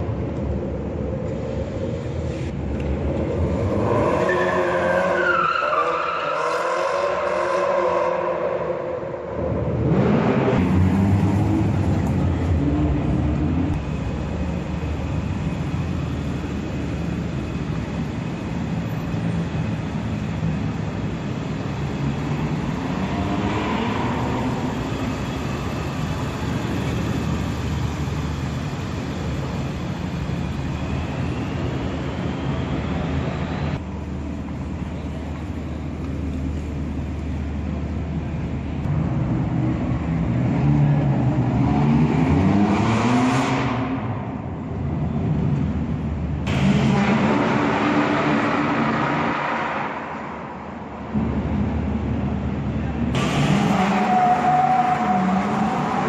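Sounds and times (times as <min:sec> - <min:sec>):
car engines revving in tunnel: 0:00.0 - 0:56.0.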